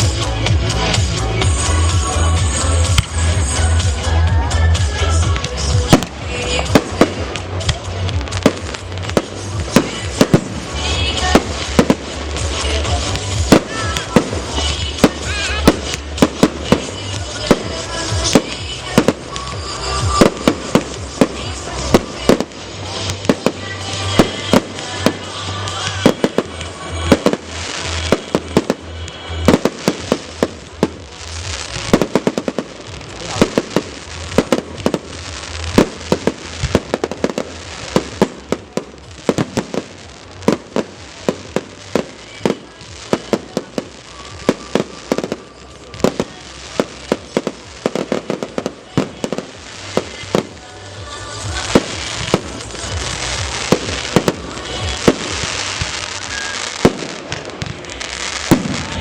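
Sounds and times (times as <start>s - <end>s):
fireworks bangs and crackling: 0.0s - 59.0s
music playing: 0.0s - 59.0s.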